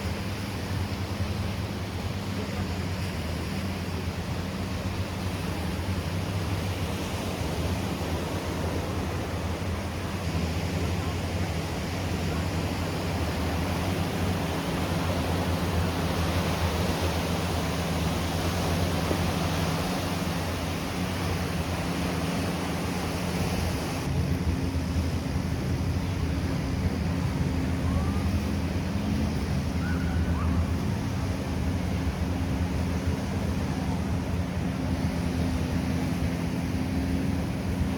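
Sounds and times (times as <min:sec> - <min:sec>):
sea surf washing onto beach: 0:00.0 - 0:37.9.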